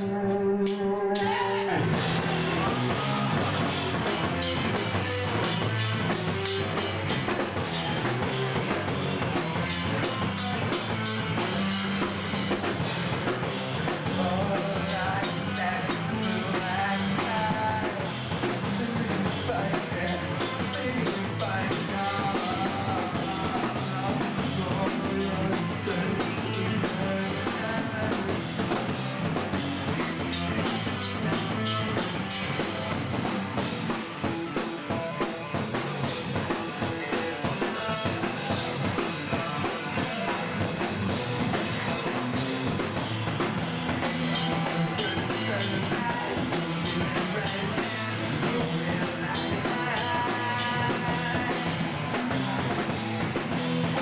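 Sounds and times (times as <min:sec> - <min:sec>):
distorted electric guitars: 0:00.0 - 0:54.0
driving drum kit: 0:00.0 - 0:54.0.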